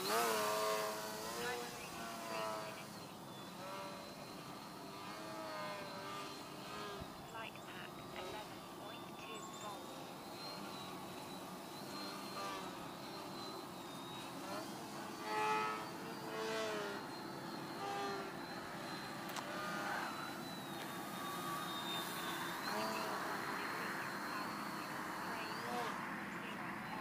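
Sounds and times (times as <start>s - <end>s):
model plane motor whine: 0.0s - 27.0s.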